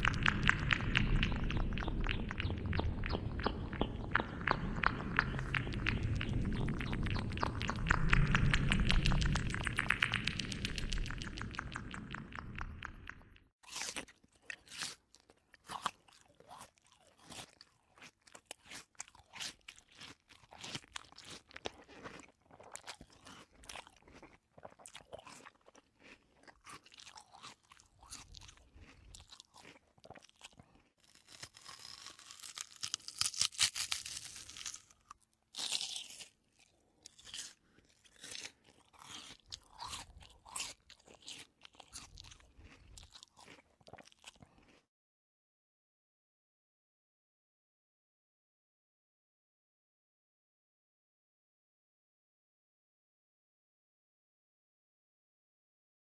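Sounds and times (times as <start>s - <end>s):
crunching clicks and crackles: 0.0s - 44.8s.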